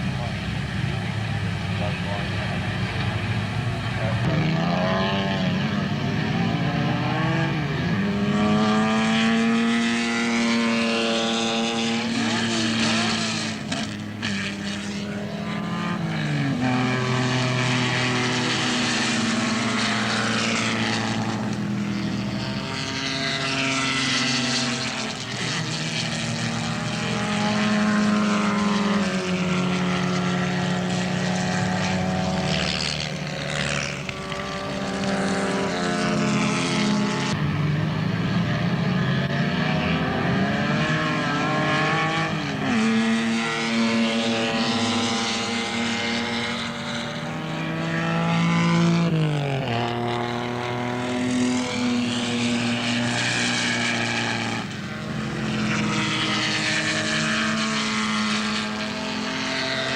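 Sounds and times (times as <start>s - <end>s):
racing car engines at full throttle: 0.0s - 59.9s.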